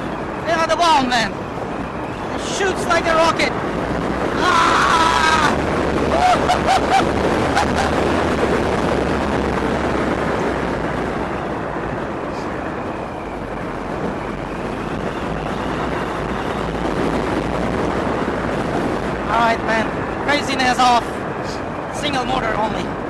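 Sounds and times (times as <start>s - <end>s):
road noise: 0.0s - 23.0s
wind rushing over microphone: 0.0s - 23.0s.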